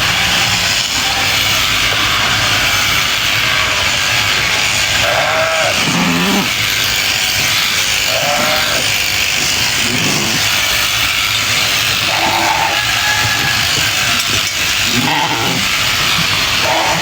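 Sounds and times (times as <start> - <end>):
shearing clippers buzzing: 0.0 - 17.0
sheep bleating: 0.0 - 17.0.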